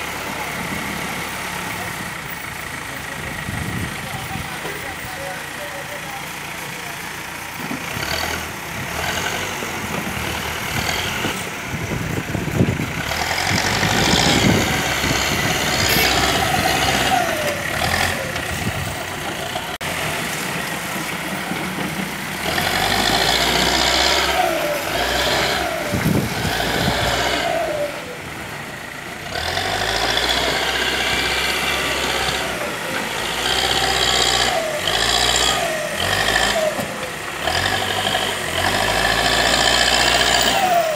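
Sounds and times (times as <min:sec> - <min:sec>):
diesel machinery engines running: 0:00.0 - 0:40.9
engine revving under load: 0:07.5 - 0:40.9.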